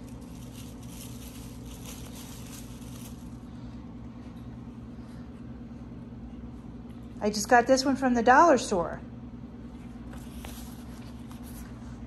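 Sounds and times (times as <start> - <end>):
low household hum: 0.0 - 12.0.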